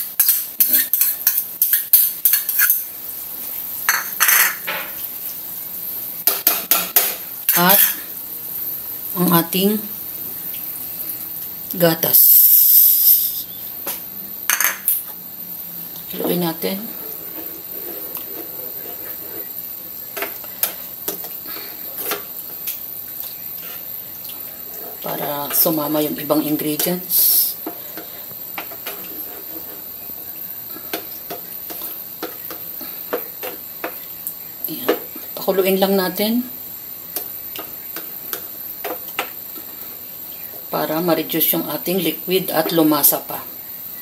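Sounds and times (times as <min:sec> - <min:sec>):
steady frying hiss: 0:00.0 - 0:44.0.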